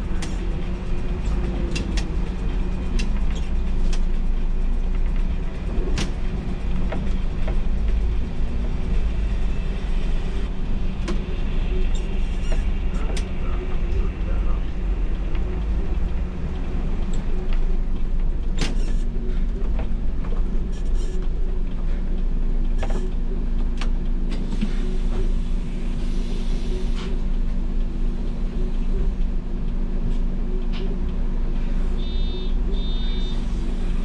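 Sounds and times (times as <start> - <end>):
bus diesel engine running: 0.0 - 34.0.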